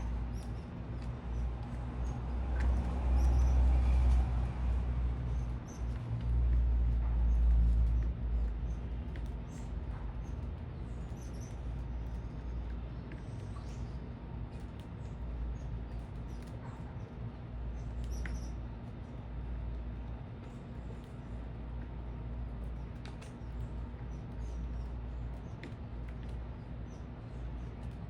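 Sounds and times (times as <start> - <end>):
low city rumble and hum: 0.0 - 28.0
small birds chirping: 0.0 - 28.0.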